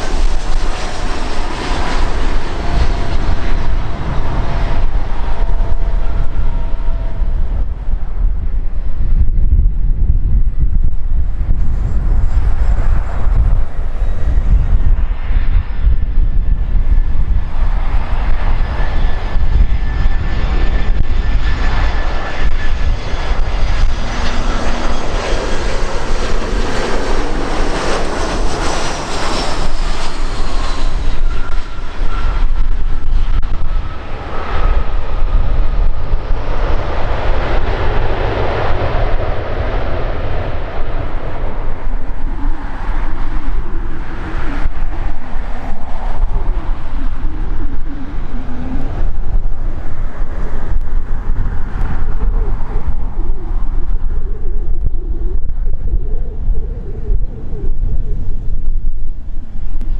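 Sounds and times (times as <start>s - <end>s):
fan whine falling in pitch: 0.0s - 59.9s
jet engine roar: 0.0s - 59.9s.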